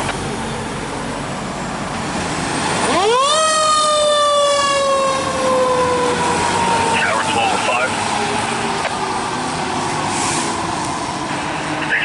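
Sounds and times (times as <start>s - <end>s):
truck engine and road noise: 0.0s - 12.0s
fire truck siren wailing: 0.3s - 12.0s.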